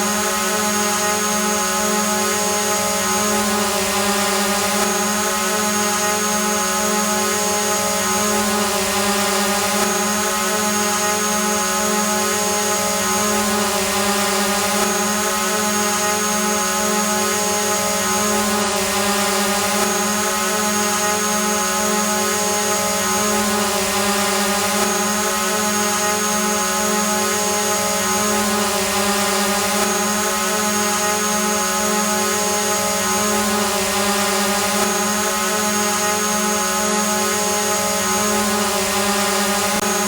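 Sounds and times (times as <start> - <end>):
drone buzzing: 0.0 - 40.0.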